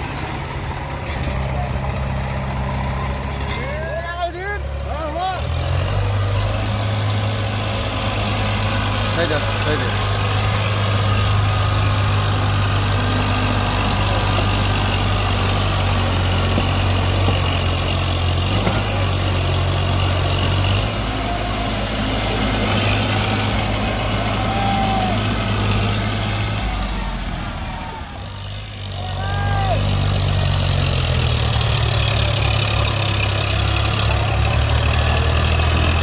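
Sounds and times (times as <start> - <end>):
diesel engine droning: 0.0 - 36.0.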